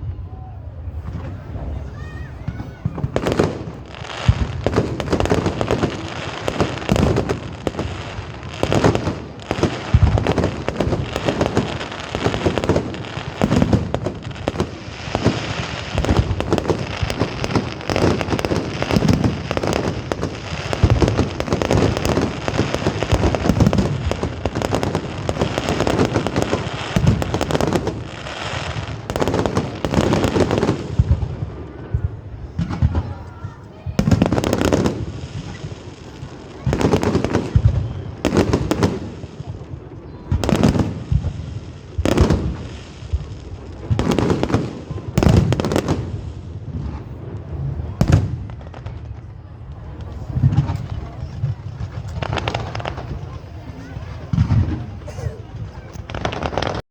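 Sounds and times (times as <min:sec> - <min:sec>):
fireworks bangs and crackling: 0:00.0 - 0:56.8.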